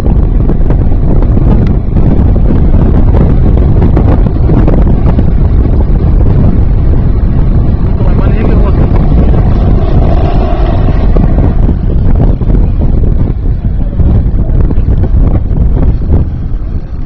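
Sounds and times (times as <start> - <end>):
wind buffeting microphone: 0.0 - 17.0
jet turbine running: 0.1 - 17.0.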